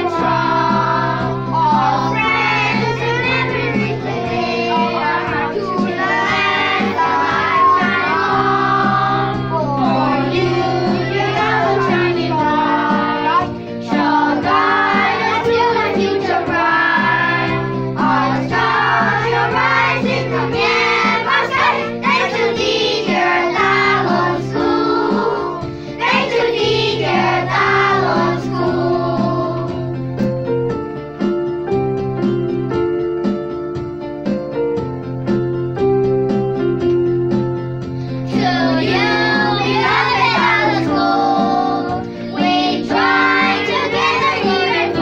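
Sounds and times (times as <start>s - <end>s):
children singing together: 0.0s - 29.9s, 38.1s - 45.0s.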